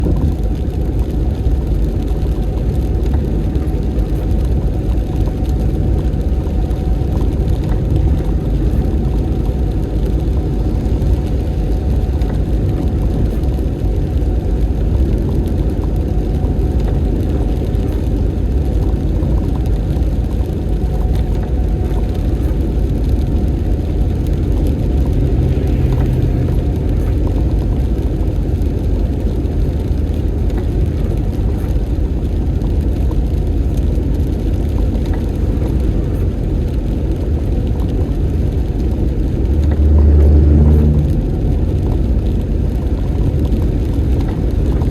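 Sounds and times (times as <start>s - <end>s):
car engine and tyre rumble: 0.0s - 44.9s.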